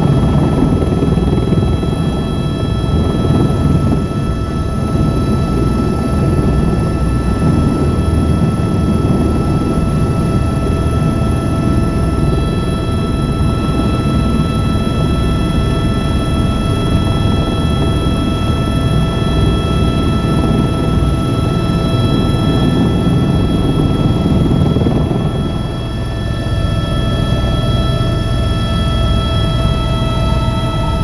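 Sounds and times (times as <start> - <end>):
helicopter rumble and whine: 0.0 - 31.0.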